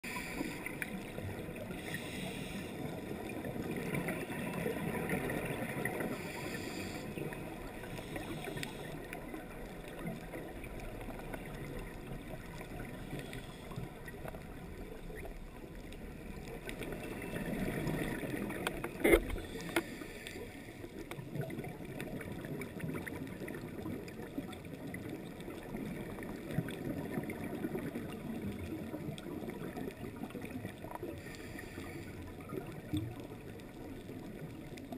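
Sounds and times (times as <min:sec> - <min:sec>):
underwater bubbles gurgling: 0:00.0 - 0:34.9.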